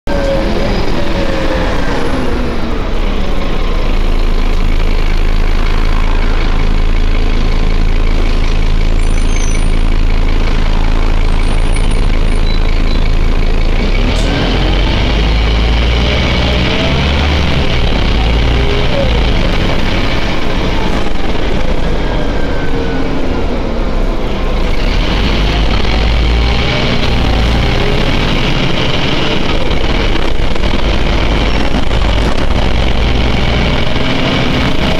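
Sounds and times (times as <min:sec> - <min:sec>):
bus diesel engine rumble: 0:00.0 - 0:34.9
road noise: 0:00.0 - 0:34.9.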